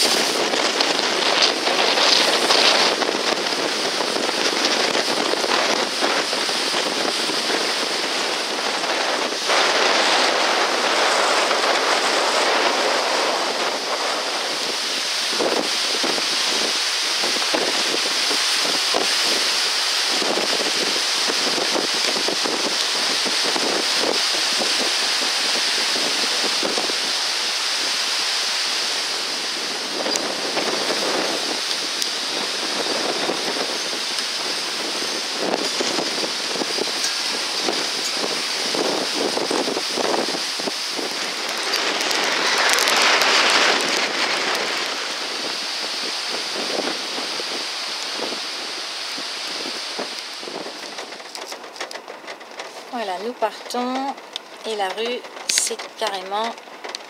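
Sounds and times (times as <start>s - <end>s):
heavy rain splashing into water: 0.0s - 57.0s
wind gusting against microphone: 0.0s - 57.0s.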